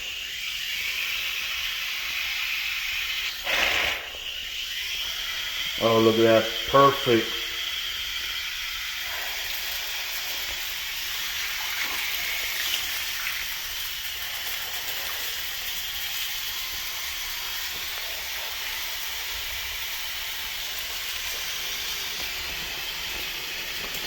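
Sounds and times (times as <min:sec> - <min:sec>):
water running into shower pan: 0:00.2 - 0:24.0.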